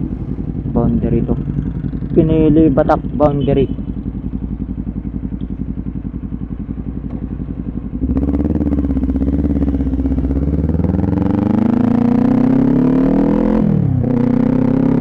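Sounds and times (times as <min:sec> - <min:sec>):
motorcycle engine idling: 0:00.0 - 0:12.8
motorcycle accelerating away: 0:00.0 - 0:15.0.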